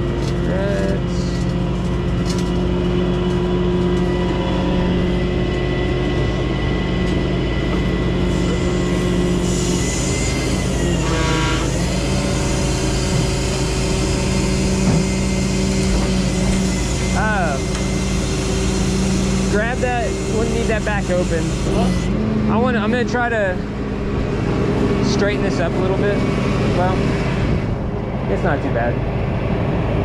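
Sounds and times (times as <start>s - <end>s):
truck engine and hydraulics humming: 0.0s - 30.0s.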